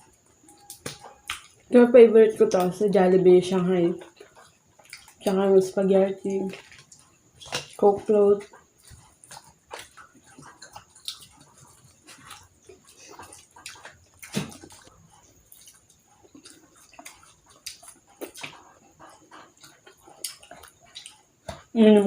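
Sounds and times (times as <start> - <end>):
chewing and mouth smacks: 0.0 - 1.7, 3.8 - 5.5, 6.2 - 21.8.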